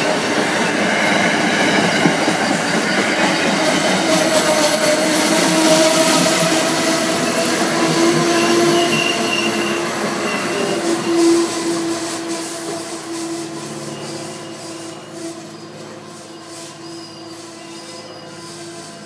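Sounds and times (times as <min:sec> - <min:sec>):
train wheels rushing on rails: 0:00.0 - 0:19.0
wheel squeal: 0:00.0 - 0:19.0.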